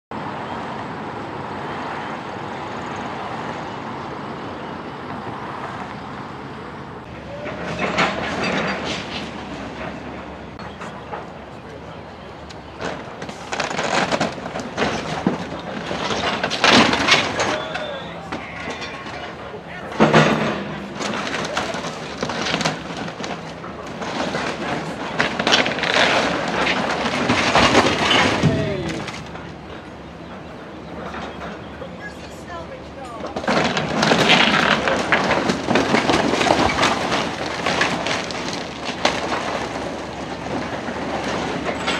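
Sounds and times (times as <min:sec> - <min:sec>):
demolition machinery rumbling: 0:00.1 - 0:41.9
structure crashing and cracking: 0:07.0 - 0:41.9.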